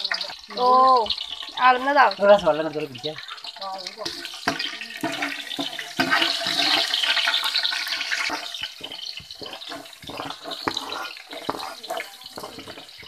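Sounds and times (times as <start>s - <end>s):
crackles and clicks: 0.0s - 13.0s
hot oil sizzling with spices: 0.0s - 13.0s.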